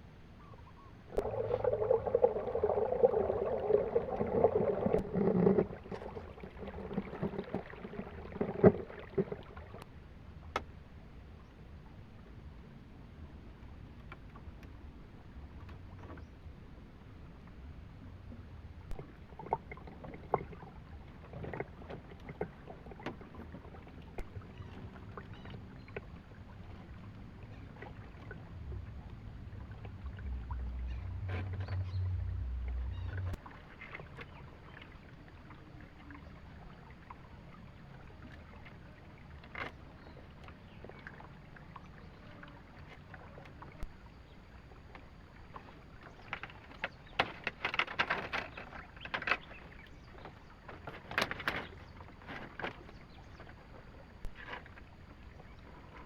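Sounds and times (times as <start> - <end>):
faint low rumble: 0.0 - 47.2.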